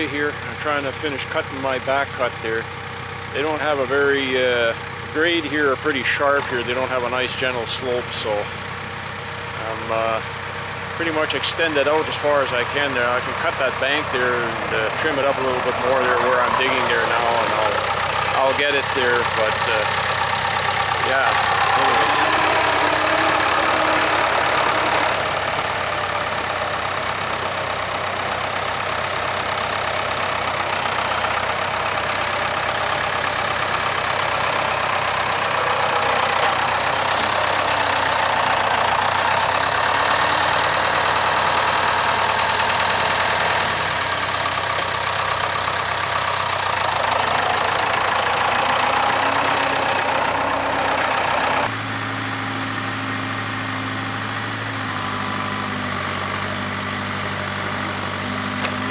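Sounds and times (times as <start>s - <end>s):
backhoe diesel engine running: 0.0s - 58.9s.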